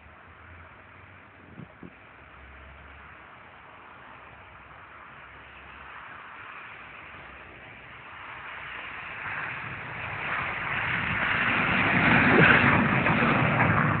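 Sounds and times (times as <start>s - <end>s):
car engine running hard: 0.0s - 14.0s
tyres hissing over snow: 0.9s - 13.1s.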